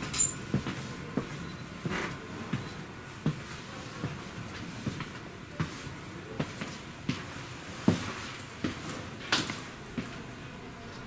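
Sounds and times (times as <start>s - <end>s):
footsteps in railcar aisle: 0.0s - 11.0s.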